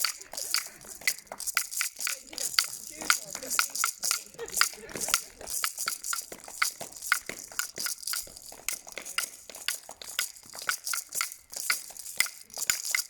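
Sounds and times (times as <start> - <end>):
hands clapping: 0.0 - 13.0.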